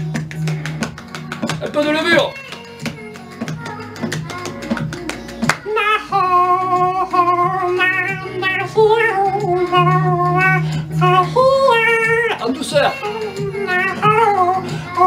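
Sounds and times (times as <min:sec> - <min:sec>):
person singing: 0:00.6 - 0:15.0.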